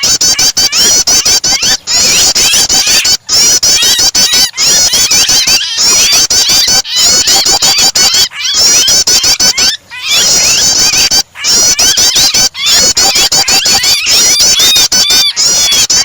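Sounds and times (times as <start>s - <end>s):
bird distress calls: 0.0s - 16.0s
bird song: 0.0s - 16.0s.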